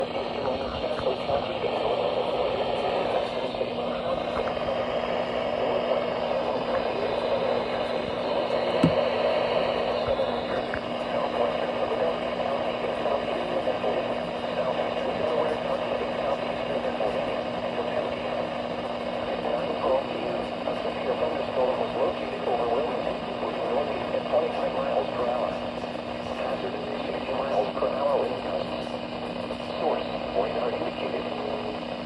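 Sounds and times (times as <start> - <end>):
radio static hiss: 0.0 - 32.0
steady low hum: 0.0 - 32.0.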